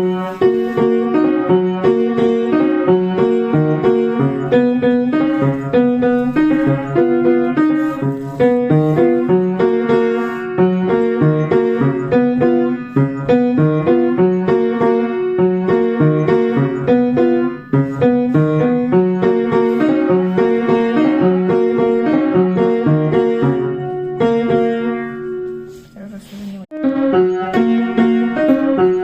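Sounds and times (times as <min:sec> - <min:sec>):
old piano playing chords: 0:00.0 - 0:25.9, 0:26.7 - 0:29.0.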